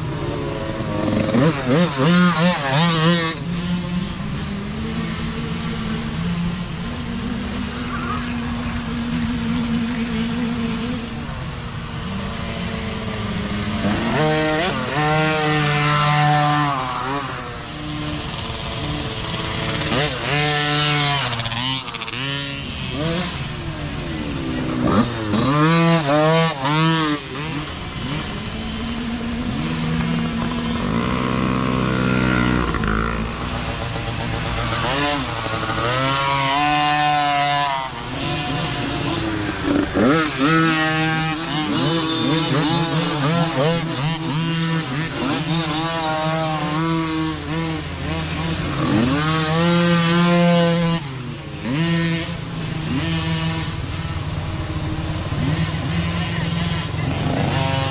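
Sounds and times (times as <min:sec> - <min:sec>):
dirt bike engines revving: 0:00.0 - 0:57.9.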